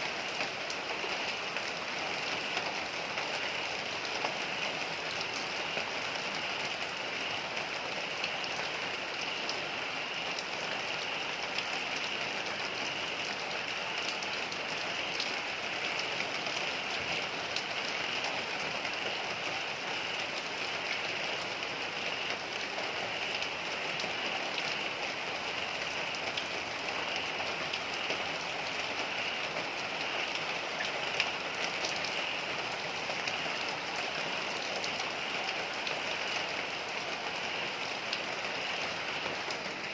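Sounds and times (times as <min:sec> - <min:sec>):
heavy rain on a house: 0:00.0 - 0:39.9.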